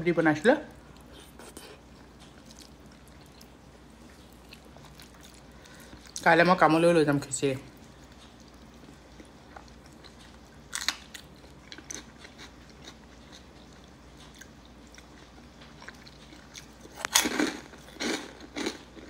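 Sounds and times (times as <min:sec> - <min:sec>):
person chewing: 0:00.7 - 0:06.2, 0:07.8 - 0:19.0.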